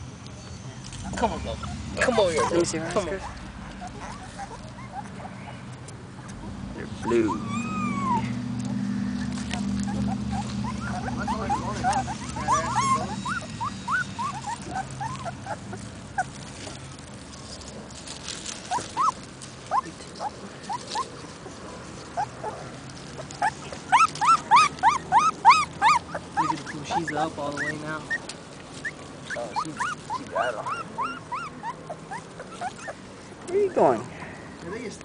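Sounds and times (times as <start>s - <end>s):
puppies whimpering: 0.9s - 34.8s.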